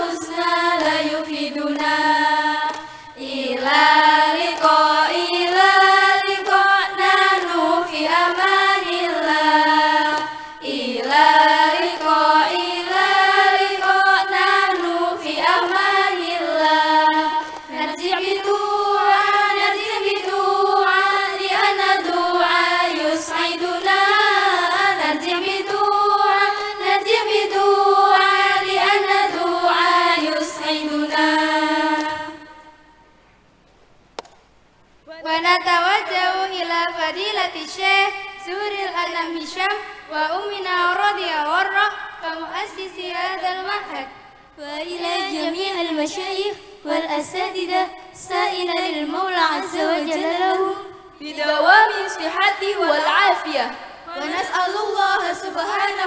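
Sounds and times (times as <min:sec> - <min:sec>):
women's choir singing: 0:00.0 - 0:33.1, 0:35.3 - 0:56.0.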